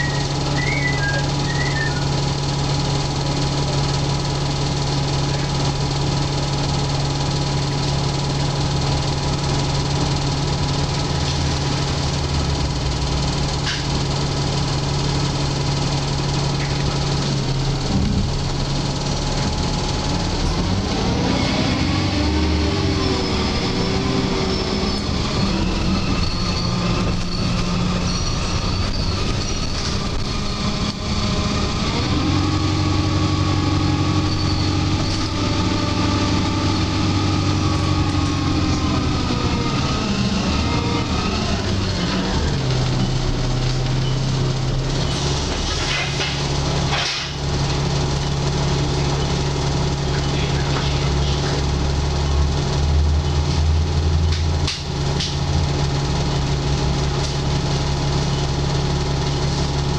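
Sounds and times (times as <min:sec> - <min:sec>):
bus engine: 0:00.0 - 0:59.9.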